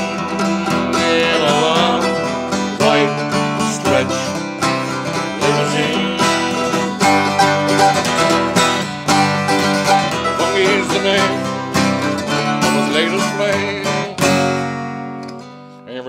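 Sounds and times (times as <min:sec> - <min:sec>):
mandolin: 0:00.0 - 0:15.7
acoustic guitar: 0:00.0 - 0:16.0.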